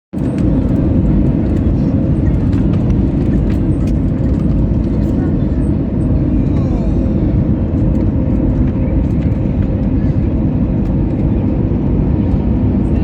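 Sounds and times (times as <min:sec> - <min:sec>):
jet engine rumble in cabin: 0:00.1 - 0:13.0.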